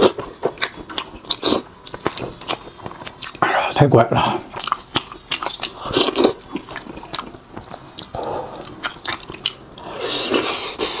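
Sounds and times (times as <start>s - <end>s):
chewing meat with wet smacks: 0.0s - 3.4s, 4.3s - 11.0s.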